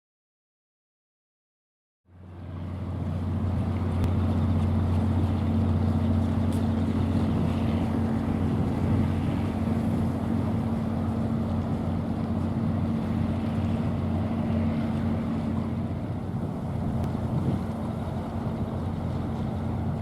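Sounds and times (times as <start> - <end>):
ship engine droning: 2.1 - 20.0
wind rumbling on microphone: 2.3 - 20.0.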